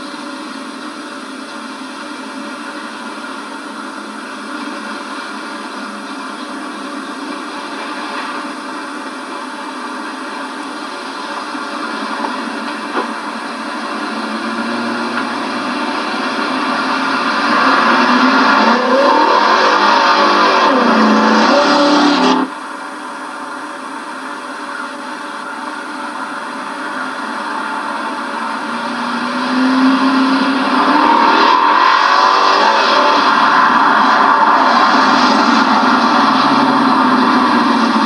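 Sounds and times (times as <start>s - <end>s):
car engine accelerating hard: 0.0s - 38.0s.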